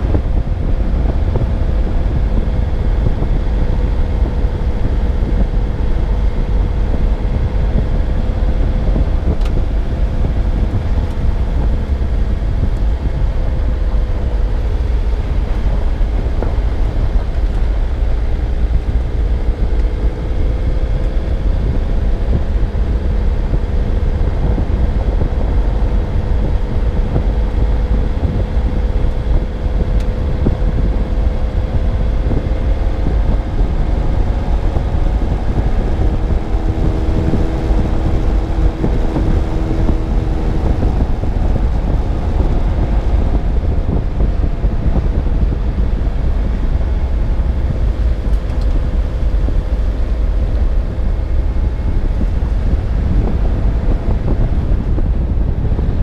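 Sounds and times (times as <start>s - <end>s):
car engine hum: 0.0s - 56.0s
road and wind noise: 0.0s - 56.0s.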